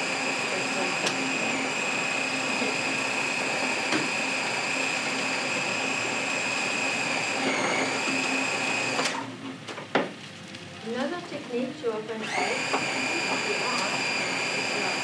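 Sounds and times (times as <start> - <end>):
food chopper motor whine: 0.0 - 9.4, 12.1 - 15.0.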